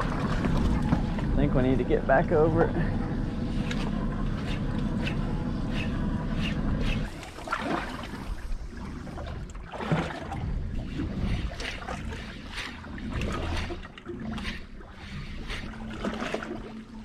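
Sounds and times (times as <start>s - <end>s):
outboard motor running: 0.0s - 17.0s
water sounds: 0.0s - 17.0s.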